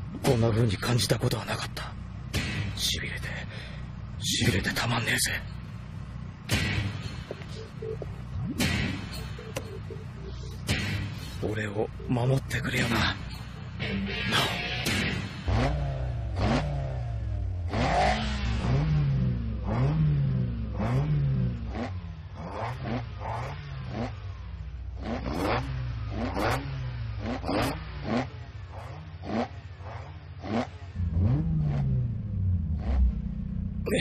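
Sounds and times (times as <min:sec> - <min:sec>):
sports car engines revving: 0:00.0 - 0:34.0.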